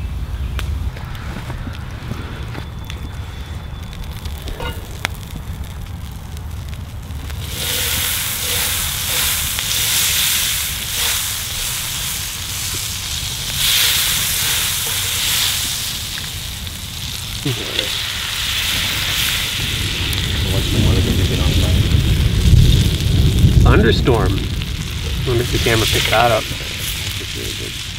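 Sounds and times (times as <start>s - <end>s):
butter sizzling in a frying pan: 3.8s - 27.9s.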